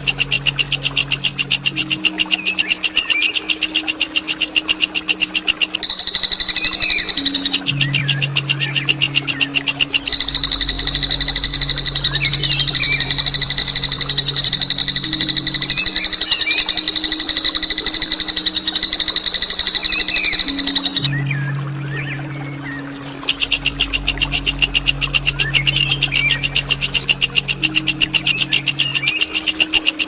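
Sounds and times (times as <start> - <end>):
bird rapid harsh trill: 0.0 - 21.1, 23.2 - 30.0
faint bird chirps: 0.0 - 30.0
low steady hum: 0.0 - 30.0.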